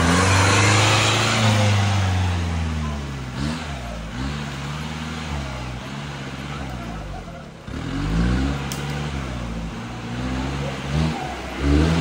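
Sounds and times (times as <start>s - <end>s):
engine revving in mud: 0.0s - 12.0s.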